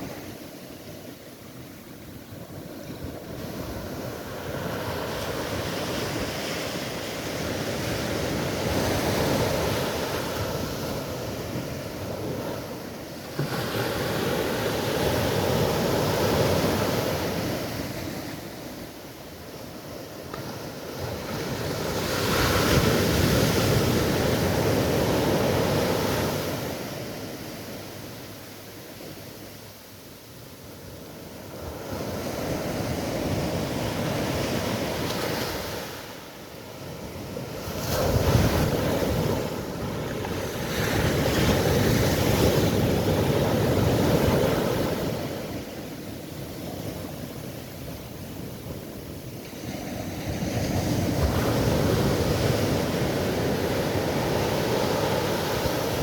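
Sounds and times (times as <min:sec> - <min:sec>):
waves breaking and washing back: 0:00.0 - 0:56.0.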